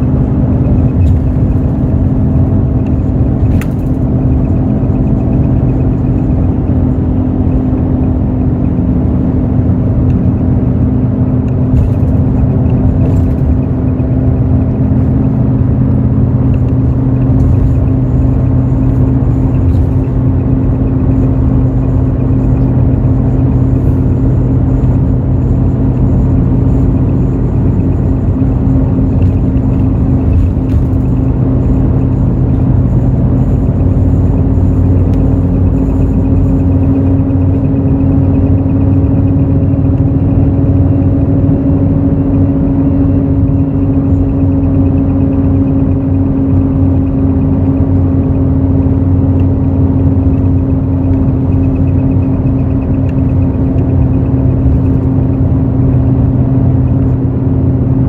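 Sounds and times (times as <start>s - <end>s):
diesel bus engine running: 0.0s - 58.0s
road rumble: 0.0s - 58.0s.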